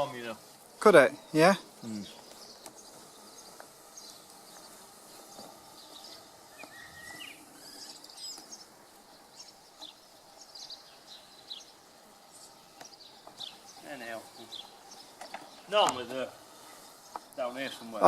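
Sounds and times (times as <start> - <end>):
birds chirping: 0.0 - 18.0
outdoor background noise: 0.0 - 18.0.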